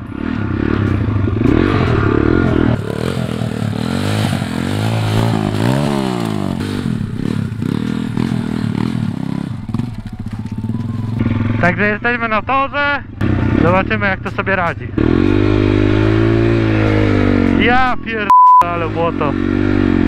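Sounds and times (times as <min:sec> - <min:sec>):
motorbike engine revving: 0:00.0 - 0:12.2, 0:13.1 - 0:18.0, 0:18.7 - 0:20.0.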